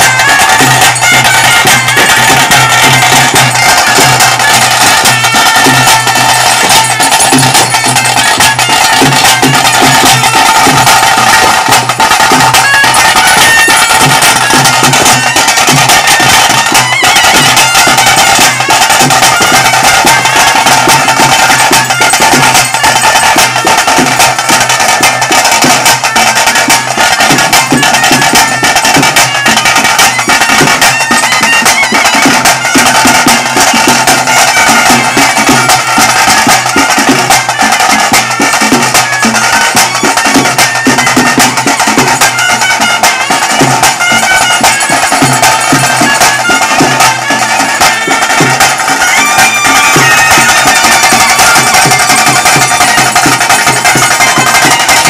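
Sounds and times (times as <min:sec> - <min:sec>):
clarinet and brass melody: 0:00.0 - 0:11.6, 0:12.2 - 0:23.9, 0:26.0 - 0:55.0
steady drumming: 0:00.0 - 0:55.0.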